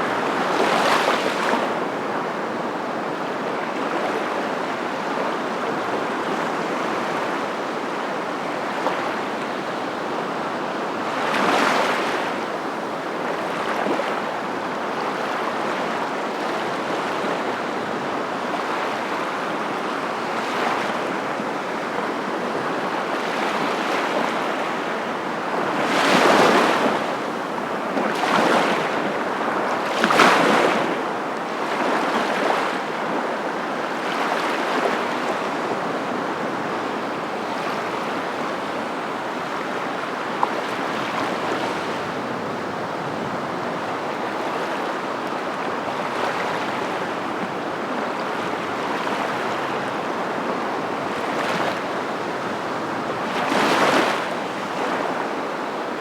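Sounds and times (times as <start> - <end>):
waves breaking: 0.0 - 2.4, 11.1 - 56.0.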